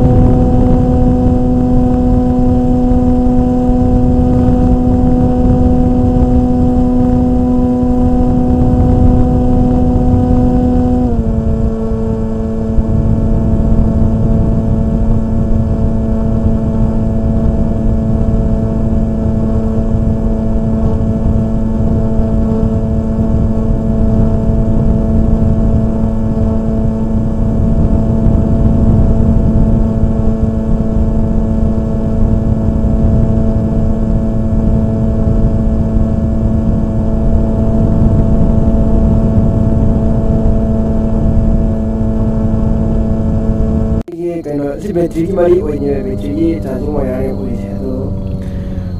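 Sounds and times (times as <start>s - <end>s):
steady hum: 0.0s - 48.9s
wind buffeting microphone: 0.0s - 48.9s.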